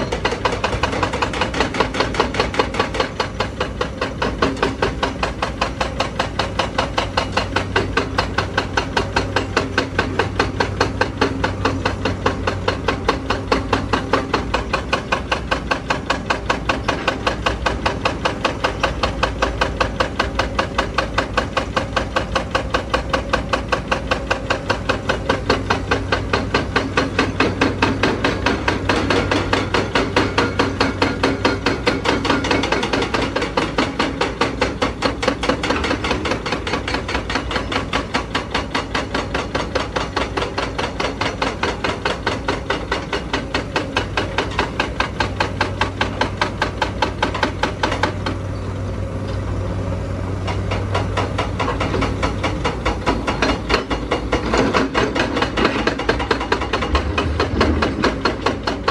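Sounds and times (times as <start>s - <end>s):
hydraulic breaker hammering rock: 0.0s - 48.6s, 50.4s - 58.9s.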